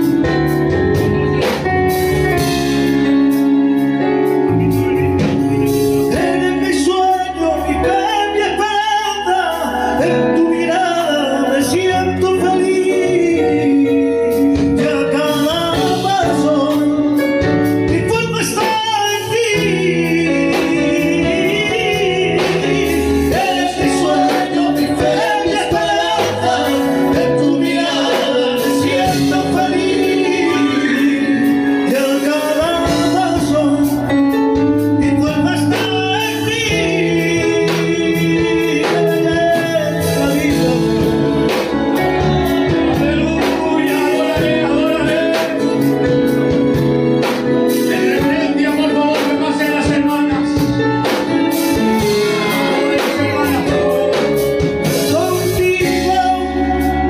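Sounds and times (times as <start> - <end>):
guitar: 0.0 - 57.0
keyboard: 0.0 - 57.0
man singing into a microphone: 5.2 - 57.0.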